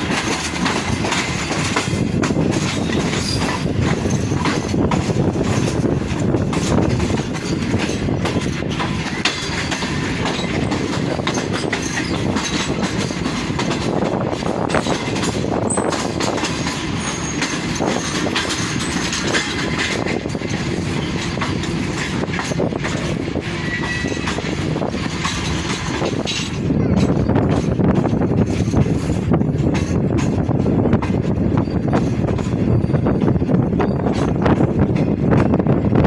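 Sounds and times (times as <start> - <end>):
train coaches rumbling: 0.0 - 36.0
wheels clicking over rail joints: 0.0 - 36.0.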